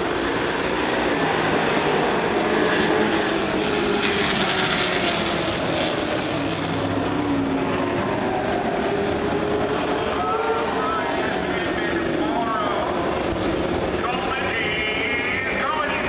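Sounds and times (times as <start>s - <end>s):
racing truck engines droning: 0.0s - 16.0s.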